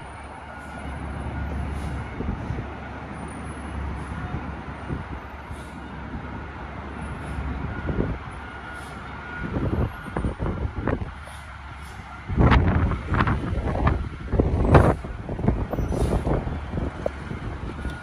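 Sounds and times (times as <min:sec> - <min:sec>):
garbage truck engine rumbling: 0:00.0 - 0:18.0.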